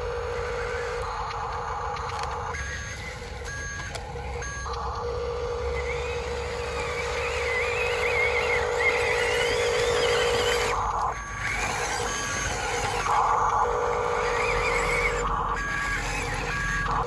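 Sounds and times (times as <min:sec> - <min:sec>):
electronic reversing beeps: 0:00.0 - 0:17.0
high wavering whine: 0:00.0 - 0:17.0
steady hum: 0:00.0 - 0:17.0.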